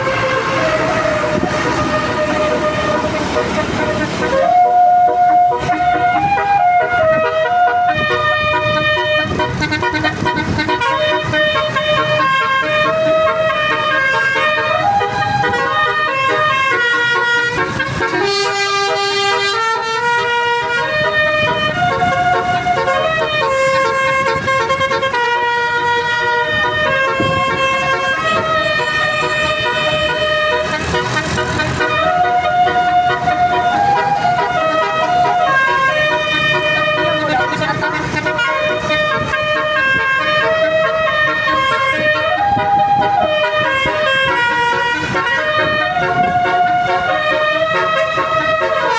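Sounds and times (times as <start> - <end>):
bus horn playing a tune: 0.0 - 48.9.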